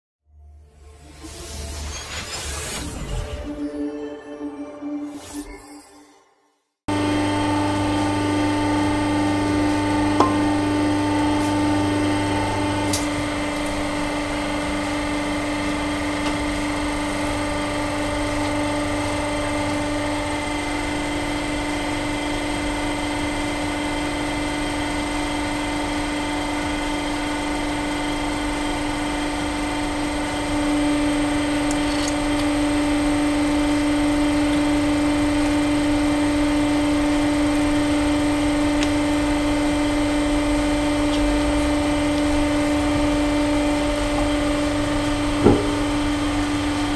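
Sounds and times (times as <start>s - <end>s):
hydraulic pump humming: 6.9s - 46.9s.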